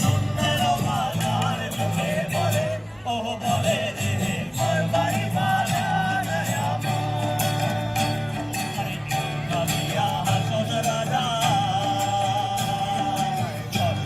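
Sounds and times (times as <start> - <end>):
person singing folk song: 0.0 - 14.0
plucked strings: 0.0 - 14.0.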